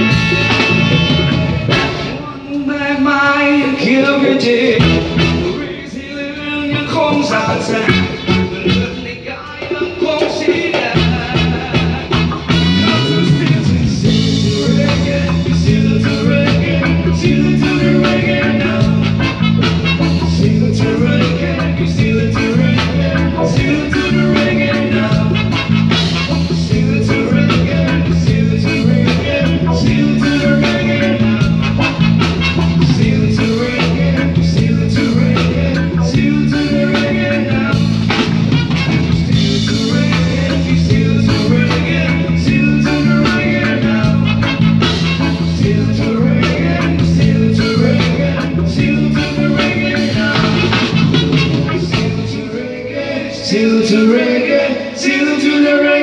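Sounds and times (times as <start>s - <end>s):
live reggae band playing: 0.0s - 56.0s.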